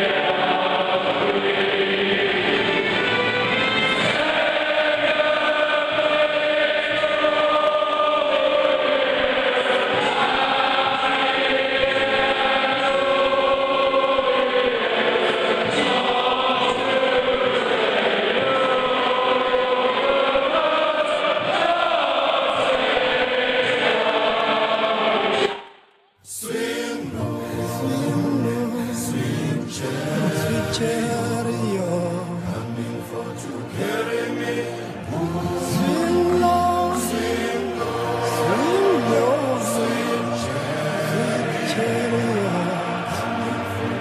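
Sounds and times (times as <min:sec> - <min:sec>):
stadium crowd singing: 0:00.0 - 0:44.0.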